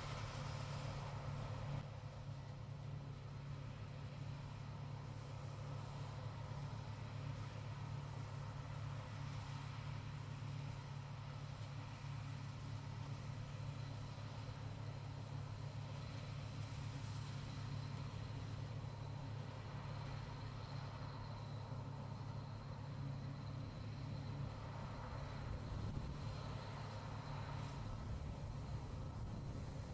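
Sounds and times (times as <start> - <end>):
low mechanical hum: 0.0 - 29.9.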